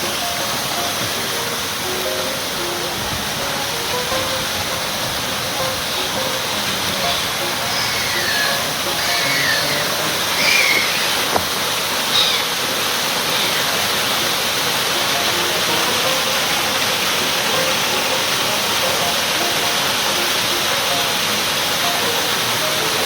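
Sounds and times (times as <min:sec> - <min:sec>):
water rushing and splashing: 0:00.0 - 0:23.0.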